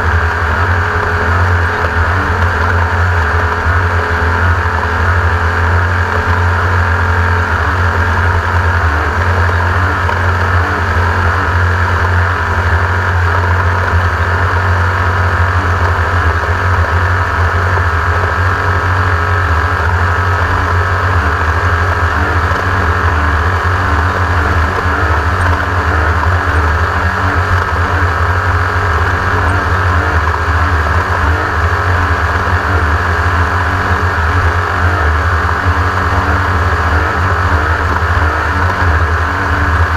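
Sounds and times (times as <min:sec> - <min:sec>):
race car engine running steadily: 0:00.0 - 0:39.9.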